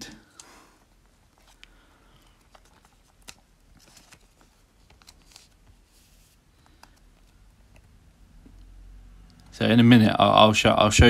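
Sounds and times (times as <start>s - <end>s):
soft clicks of card handling: 0.2s - 9.5s.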